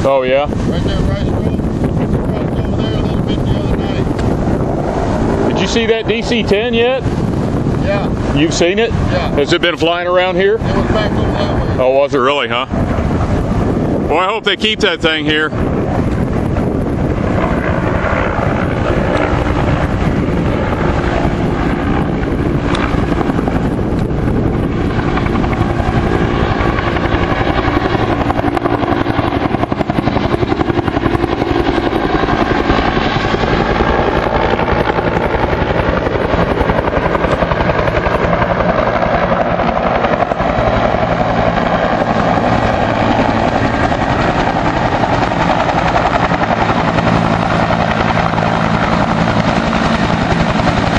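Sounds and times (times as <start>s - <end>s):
helicopter engine din: 0.0s - 50.9s
helicopter rotor blades beating: 0.0s - 50.9s.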